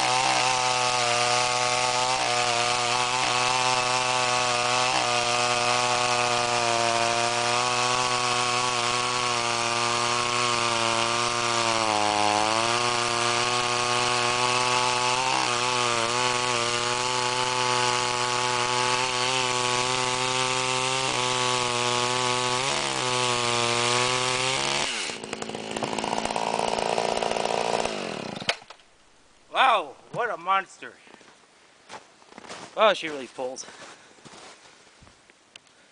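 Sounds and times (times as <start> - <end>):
chainsaw cutting log: 0.0 - 30.6.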